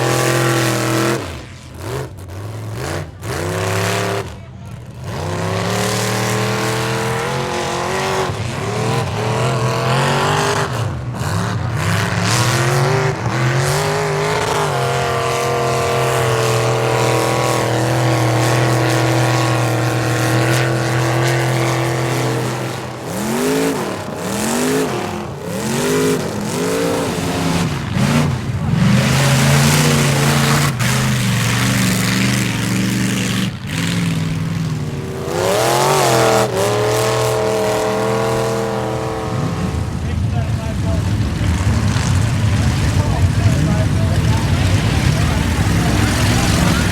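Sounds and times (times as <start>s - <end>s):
pickup truck engine revving: 0.0s - 46.9s.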